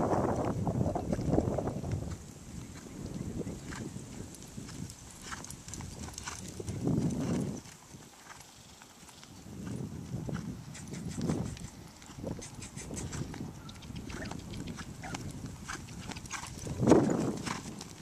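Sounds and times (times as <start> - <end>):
horse hooves thudding on turf: 0.0 - 18.0
hoof clicks and scuffs: 1.9 - 18.0.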